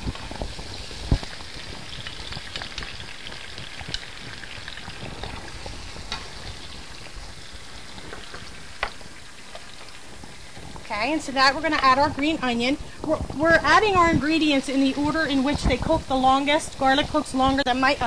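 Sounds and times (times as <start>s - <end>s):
garlic sizzling in oil: 0.0s - 18.0s.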